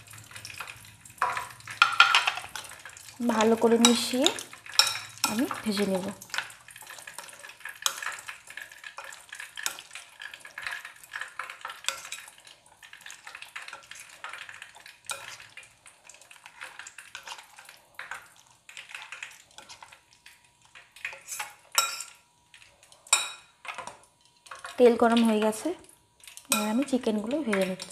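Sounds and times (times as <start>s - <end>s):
spoon stirring wet food: 0.0s - 27.9s.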